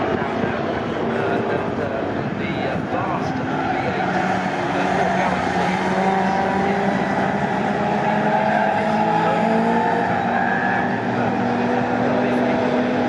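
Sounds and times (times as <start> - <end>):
racing car engines at high revs: 0.0 - 13.0.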